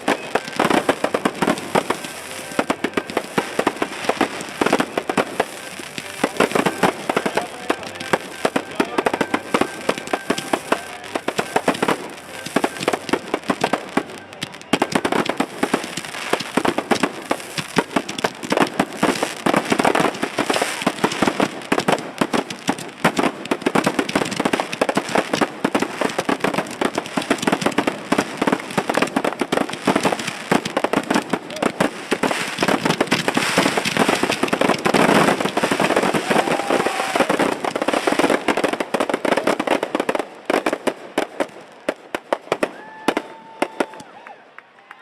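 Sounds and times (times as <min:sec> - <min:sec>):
fireworks bangs and crackling: 0:00.0 - 0:44.3.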